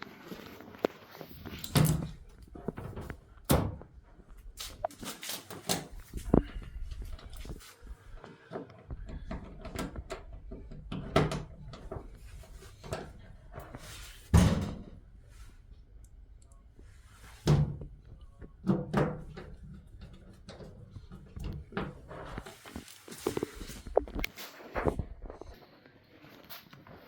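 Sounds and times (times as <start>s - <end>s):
handling and rattling noises: 0.0s - 15.6s, 16.8s - 25.6s.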